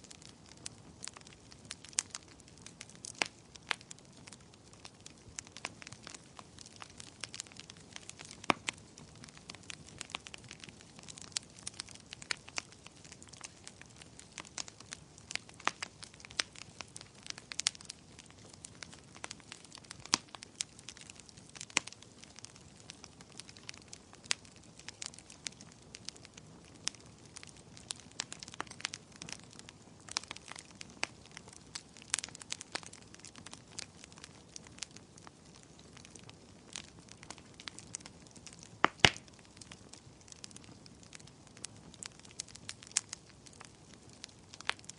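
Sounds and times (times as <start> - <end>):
fire crackling in a fireplace: 0.0 - 44.9.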